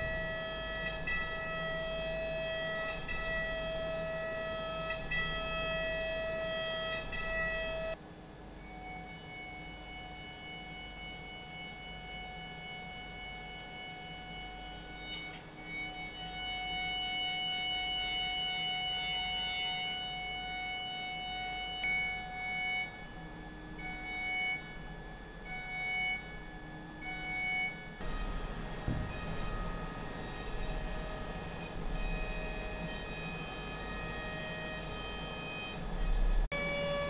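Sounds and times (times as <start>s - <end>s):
milling machine cutting metal whine: 0.0s - 37.0s.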